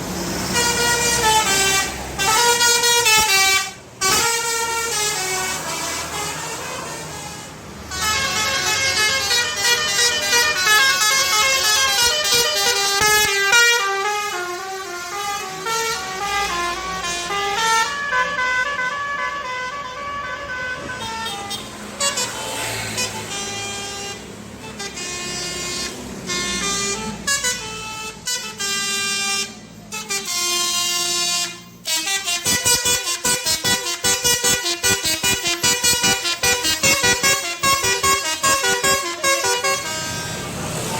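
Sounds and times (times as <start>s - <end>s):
bus musical air horns: 0.0s - 40.9s.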